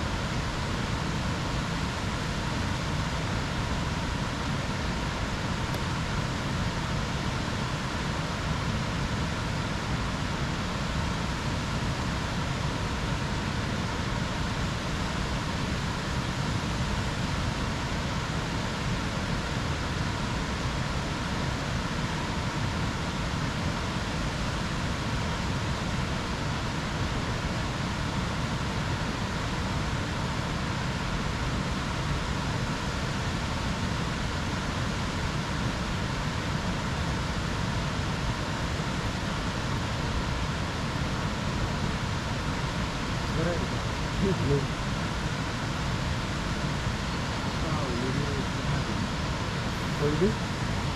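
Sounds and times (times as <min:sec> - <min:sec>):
steady outdoor rushing noise: 0:00.0 - 0:50.9.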